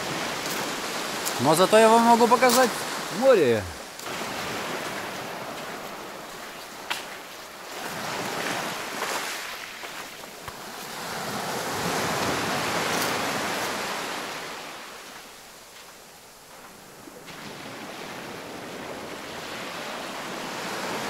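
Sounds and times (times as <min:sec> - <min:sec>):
waves breaking on pebble beach: 0:00.0 - 0:21.0.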